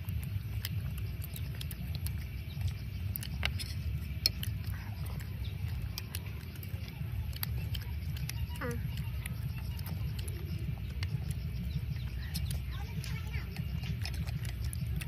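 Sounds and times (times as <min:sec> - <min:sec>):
chewing and mouth smacks: 0:00.0 - 0:15.0
low steady rumble: 0:00.0 - 0:15.0.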